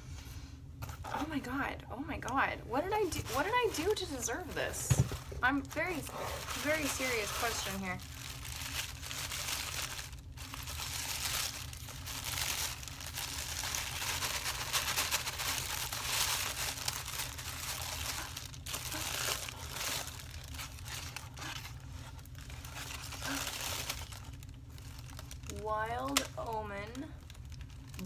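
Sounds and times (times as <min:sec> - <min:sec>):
aluminium foil crinkling: 0:02.7 - 0:28.0.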